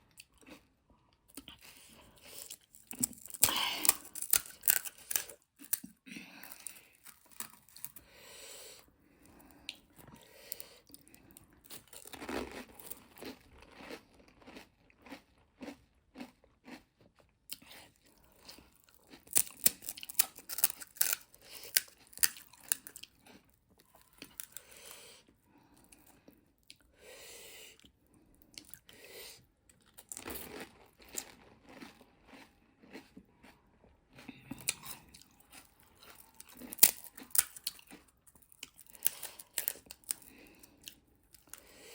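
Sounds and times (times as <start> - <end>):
crunching and chewing crisp shells: 0.0 - 26.9, 27.8 - 41.9.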